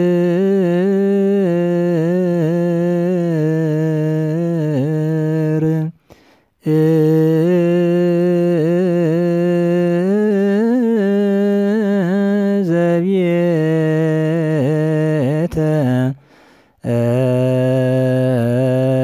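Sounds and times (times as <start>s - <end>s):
person chanting a hymn: 0.0s - 6.0s, 6.6s - 19.0s.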